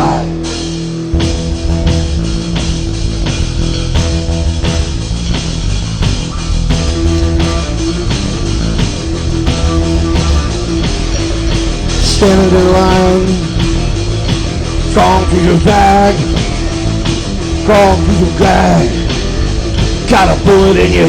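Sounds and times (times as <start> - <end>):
bass guitar: 0.0 - 21.0
distorted electric guitar: 0.0 - 21.0
driving drum kit: 0.0 - 21.0.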